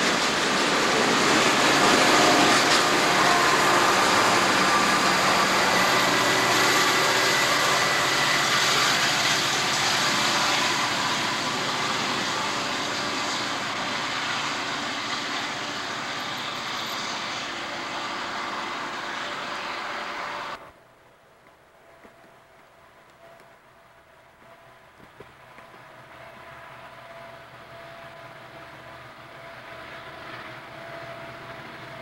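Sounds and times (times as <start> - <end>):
train wheels on rails: 0.0 - 20.8, 21.4 - 32.0
diesel locomotive engines under load: 0.0 - 32.0.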